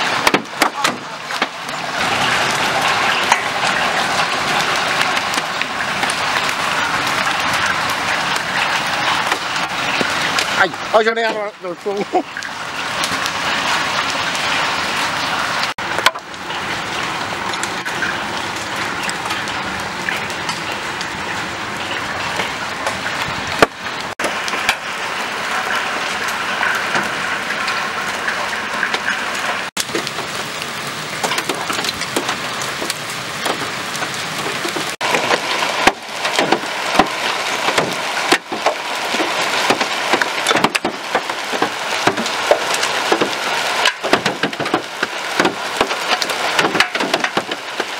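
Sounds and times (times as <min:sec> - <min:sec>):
hail and heavy rain pattering: 0:00.0 - 0:47.9
hailstones knocking hard surfaces: 0:00.0 - 0:47.9.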